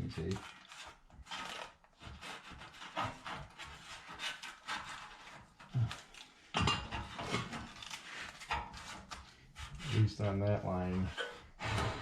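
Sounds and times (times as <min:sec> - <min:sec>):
scraping on metal plate: 0:00.2 - 0:06.1, 0:06.7 - 0:12.0.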